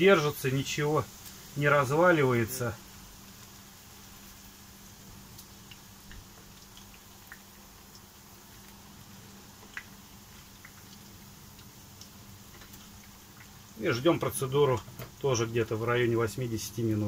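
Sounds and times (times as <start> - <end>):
pancakes sizzling in oil: 0.0 - 17.0.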